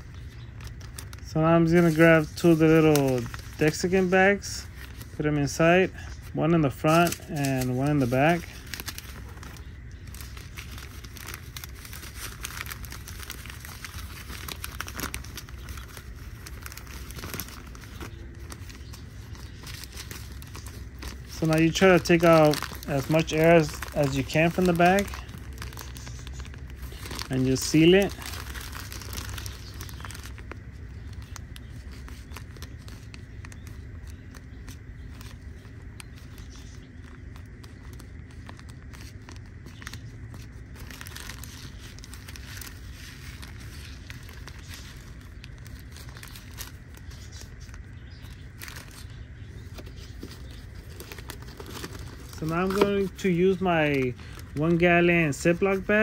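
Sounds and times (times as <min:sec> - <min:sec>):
plastic bag crinkling: 0:00.0 - 0:56.0.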